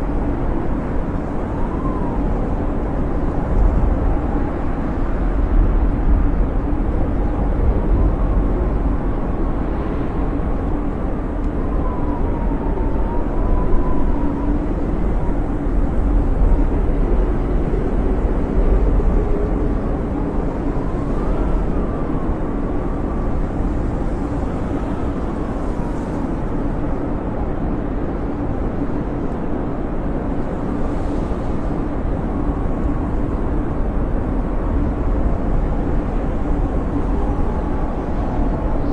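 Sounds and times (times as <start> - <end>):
faint wind whistle: 0.0 - 38.9
wind howling: 0.0 - 38.9.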